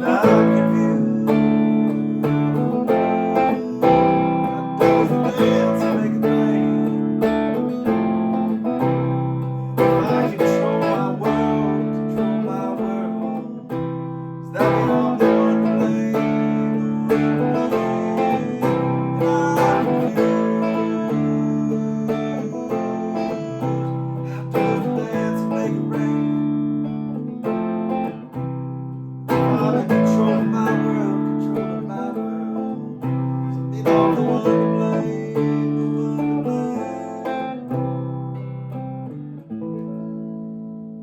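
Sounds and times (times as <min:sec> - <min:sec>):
acoustic guitar chords: 0:00.0 - 0:41.0
hard guitar strums: 0:00.0 - 0:41.0.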